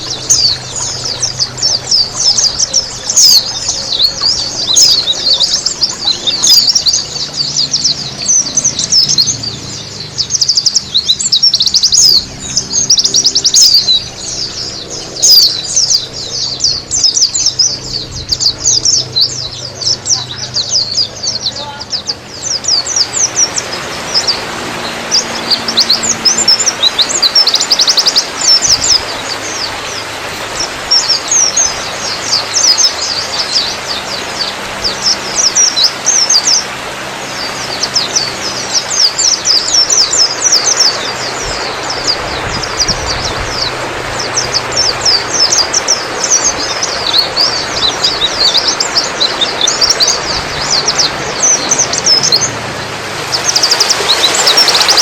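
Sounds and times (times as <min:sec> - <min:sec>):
birds chattering trills: 0:00.0 - 0:55.0.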